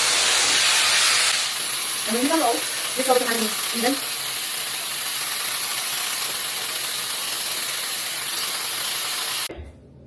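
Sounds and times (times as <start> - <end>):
hair dryer blowing: 0.0 - 9.5.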